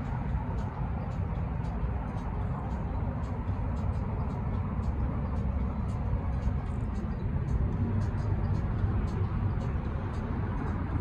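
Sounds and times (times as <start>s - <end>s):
faint light ticks: 0.0s - 11.0s
road traffic rumble: 0.0s - 11.0s.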